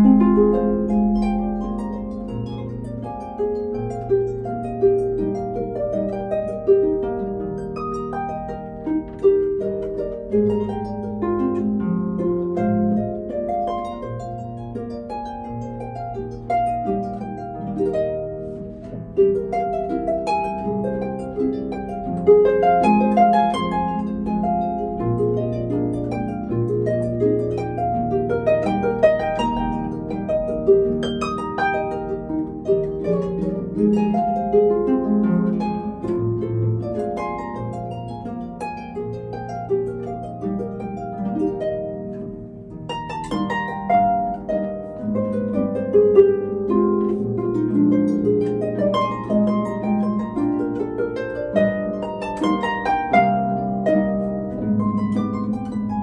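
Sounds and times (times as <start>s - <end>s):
harp playing: 0.0s - 56.0s.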